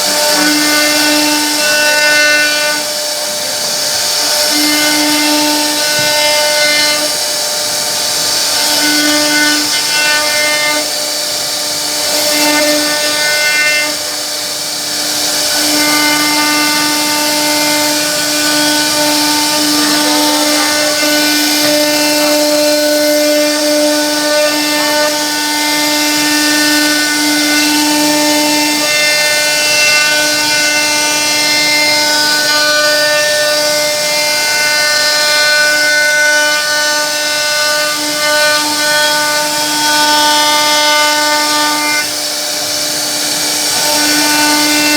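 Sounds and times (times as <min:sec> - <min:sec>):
hiss of cutting wood: 0:00.0 - 0:44.9
router spindle high whine: 0:00.0 - 0:44.9.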